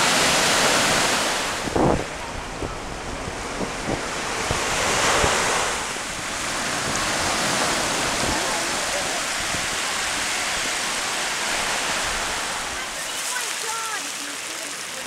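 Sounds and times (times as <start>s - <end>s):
wind buffeting microphone: 0.0s - 13.0s
small waves breaking on beach: 0.0s - 15.0s.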